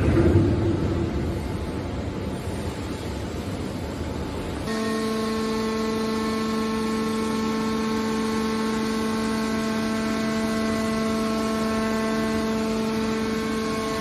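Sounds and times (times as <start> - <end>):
hydraulic power unit humming: 0.0 - 14.0.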